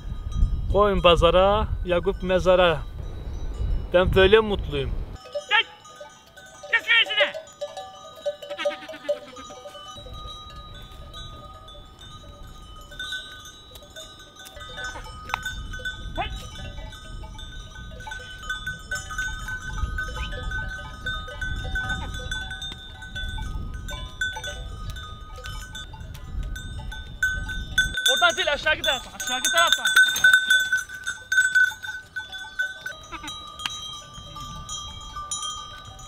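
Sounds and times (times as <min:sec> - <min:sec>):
livestock bells clinking: 0:00.0 - 0:36.0.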